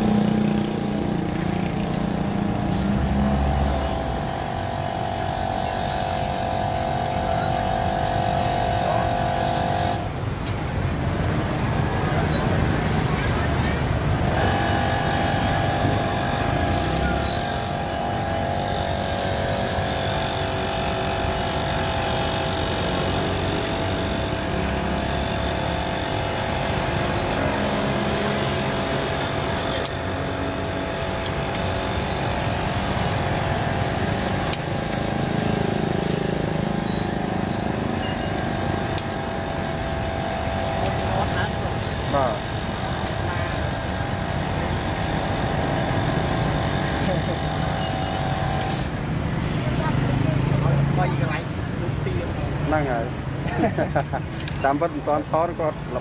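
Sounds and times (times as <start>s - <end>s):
motor traffic: 0.0s - 56.0s.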